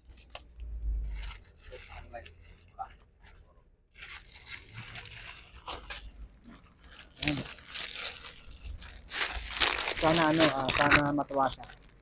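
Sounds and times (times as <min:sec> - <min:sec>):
plastic packaging crinkling: 0:01.1 - 0:12.0.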